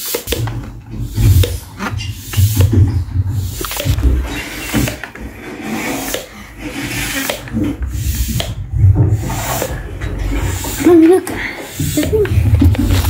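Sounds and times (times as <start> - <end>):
hand air pump hissing: 0.0 - 13.0
plastic rubbing and knocking: 0.0 - 13.0.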